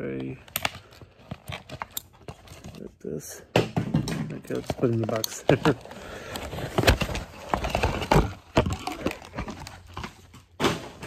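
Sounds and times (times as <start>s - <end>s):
objects being handled: 0.0s - 11.0s.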